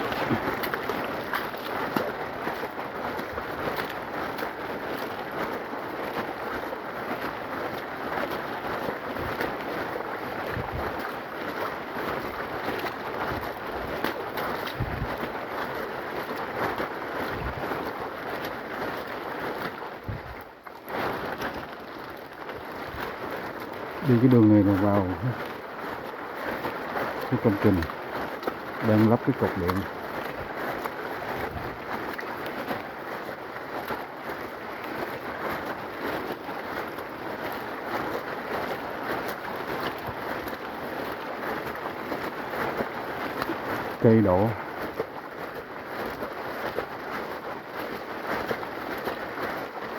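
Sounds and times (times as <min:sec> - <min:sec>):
rain falling in forest: 0:00.0 - 0:49.9
wind on microphone: 0:00.0 - 0:49.9.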